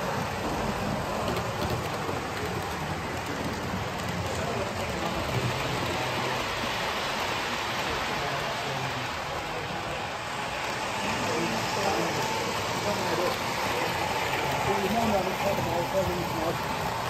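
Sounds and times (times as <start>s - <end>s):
model train wheels rolling on rails: 0.0s - 17.0s.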